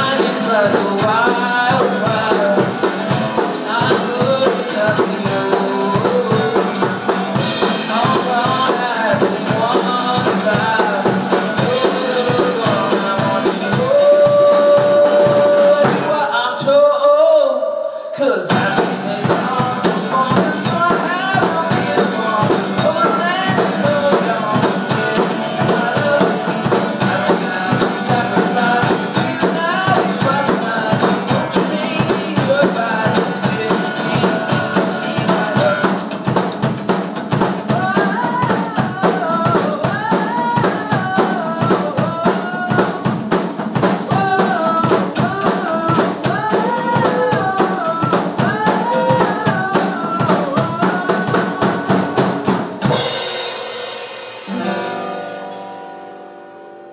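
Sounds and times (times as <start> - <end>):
drum kit beat: 0.0 - 16.3, 18.5 - 56.7
strummed acoustic guitar: 0.0 - 16.5, 18.5 - 56.9
man singing: 0.0 - 36.6, 37.2 - 53.5.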